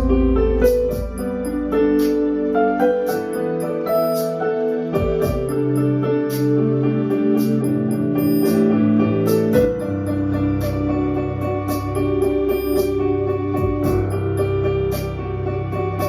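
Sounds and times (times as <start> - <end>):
keyboard playing sustained chords: 0.0 - 16.0.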